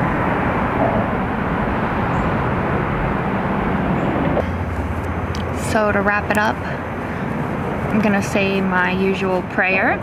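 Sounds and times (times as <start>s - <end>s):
road traffic rushing: 0.0s - 10.0s.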